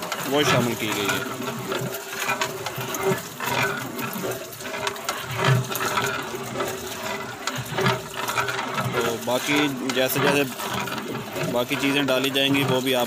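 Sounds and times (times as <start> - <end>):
milk sloshing in metal pot: 0.0 - 13.0.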